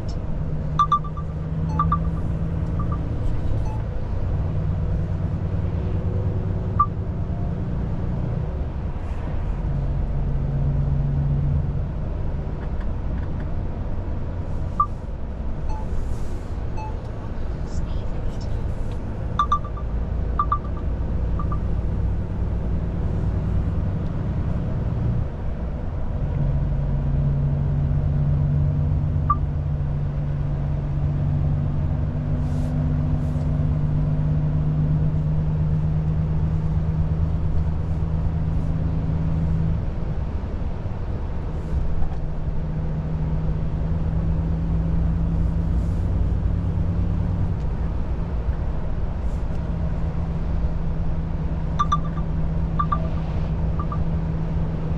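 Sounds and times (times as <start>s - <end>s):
truck diesel engine droning: 0.0s - 12.6s, 13.6s - 54.9s.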